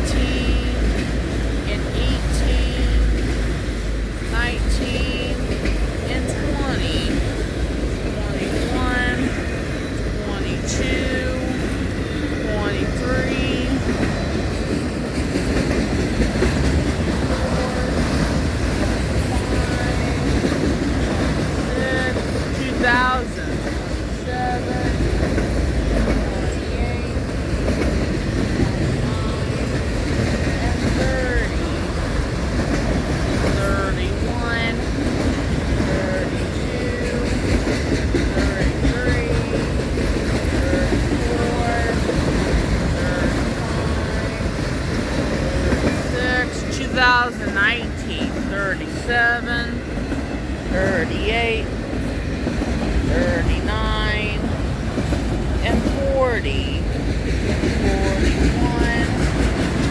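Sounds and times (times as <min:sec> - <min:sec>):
freight cars rumbling on rail: 0:00.0 - 0:59.9.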